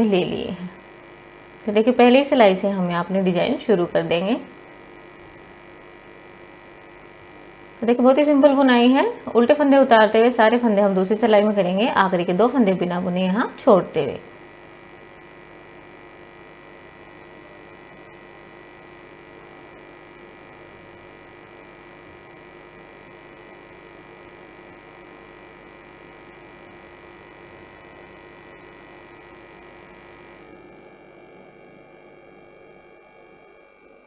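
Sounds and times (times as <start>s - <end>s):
electrical hum with tones: 0.0s - 34.0s.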